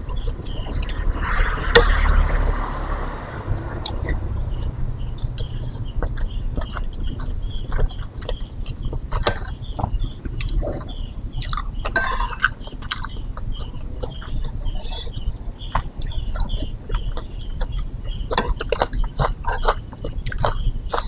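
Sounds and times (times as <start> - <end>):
close chewing with wet mouth clicks: 3.3 - 21.0.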